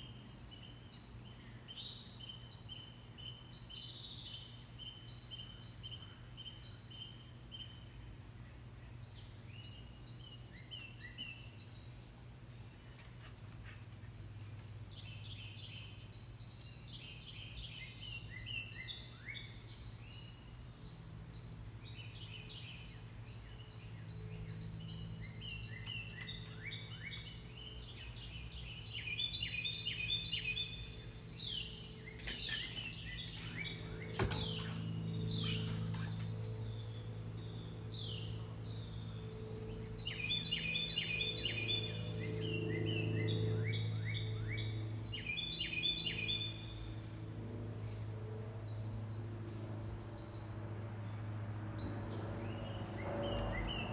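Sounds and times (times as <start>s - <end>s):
birds chirping and singing: 0.0s - 53.9s
steady low hum: 4.4s - 53.9s.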